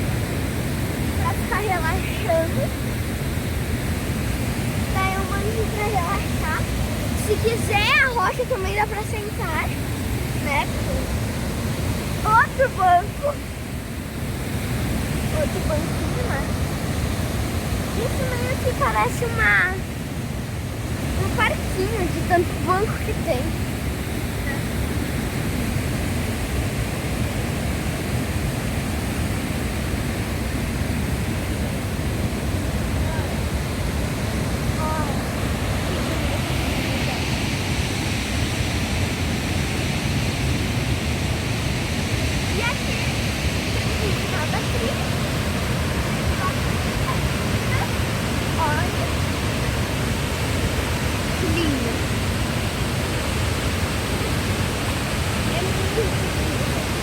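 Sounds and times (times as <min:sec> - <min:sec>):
fast river and waterfalls rushing: 0:00.0 - 0:57.0.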